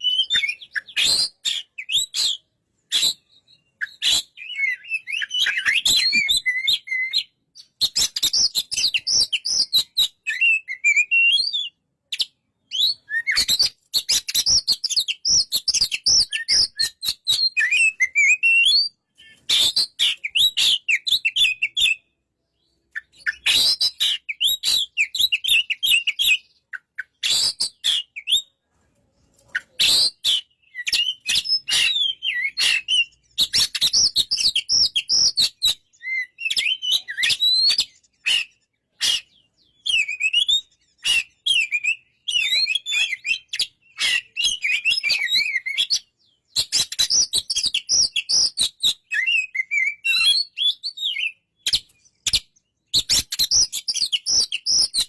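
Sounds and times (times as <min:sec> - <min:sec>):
songbird whistling and chirping: 0:00.0 - 0:28.6, 0:29.2 - 0:55.0.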